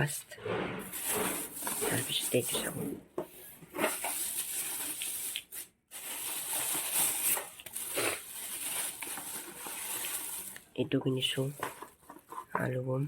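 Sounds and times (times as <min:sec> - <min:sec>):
wrappers rustling: 0:00.8 - 0:02.8, 0:03.5 - 0:12.5
packets being handled: 0:00.9 - 0:02.7, 0:03.5 - 0:12.5.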